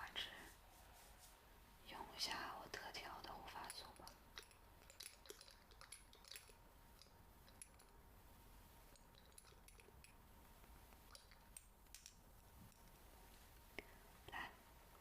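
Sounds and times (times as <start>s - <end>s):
low hiss: 0.0s - 15.0s.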